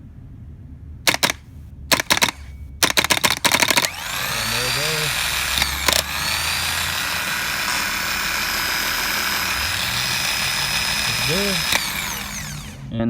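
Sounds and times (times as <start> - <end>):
sharp clicks: 1.1 - 12.9
starter motor whining: 1.1 - 13.0.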